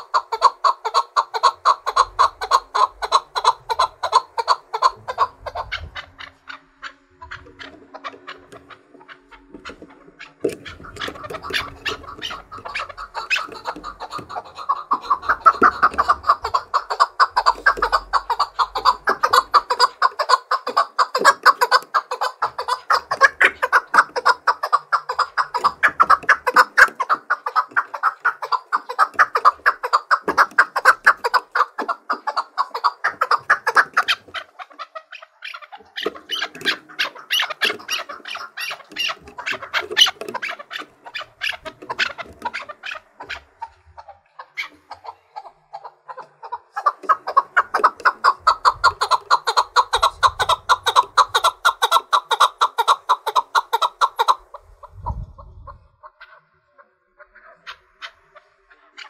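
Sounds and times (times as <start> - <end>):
partridge chuck calls: 0.0 - 59.0.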